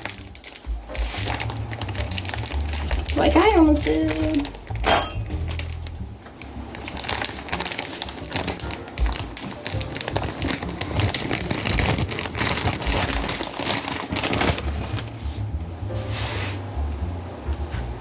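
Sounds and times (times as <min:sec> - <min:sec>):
packaging crinkling and tapping: 0:00.0 - 0:15.2
background music: 0:00.0 - 0:18.0.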